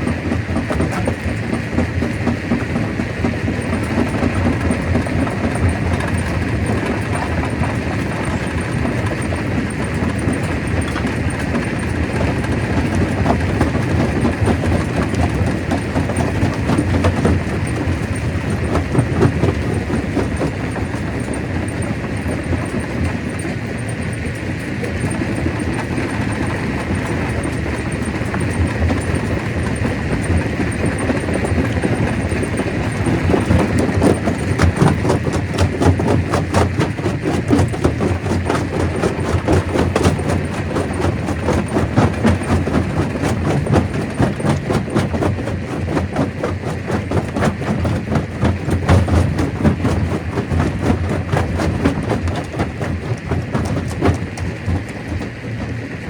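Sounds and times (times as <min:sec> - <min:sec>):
rock rattling through crusher: 0:00.0 - 0:56.0.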